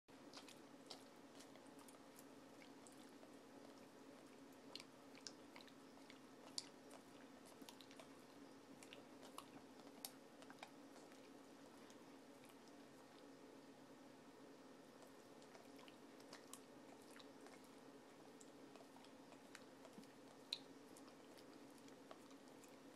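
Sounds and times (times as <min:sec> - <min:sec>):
dog licking and smacking: 0:00.2 - 0:13.4, 0:15.0 - 0:22.9.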